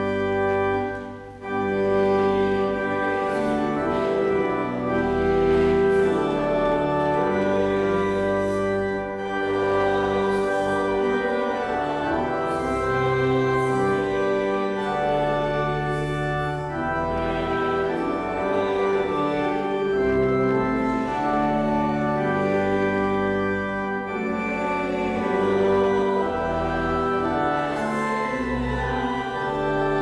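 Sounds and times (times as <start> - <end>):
church organ playing a hymn: 0.0 - 30.0.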